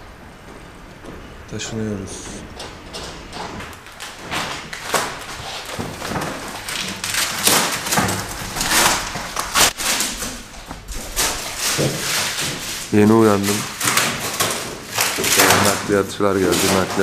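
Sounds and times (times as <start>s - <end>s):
rustling: 0.0s - 17.0s
scraping: 0.0s - 17.0s.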